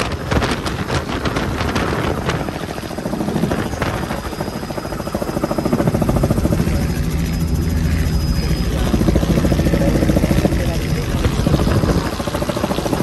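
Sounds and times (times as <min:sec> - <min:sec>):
helicopter engine noise: 0:00.0 - 0:13.0
helicopter rotor chop: 0:00.0 - 0:13.0.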